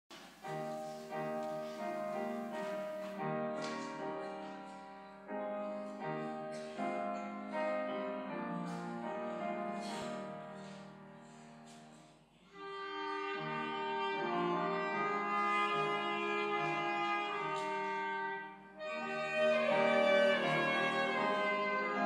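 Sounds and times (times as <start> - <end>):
piano playing slow chords: 0.4 - 22.0.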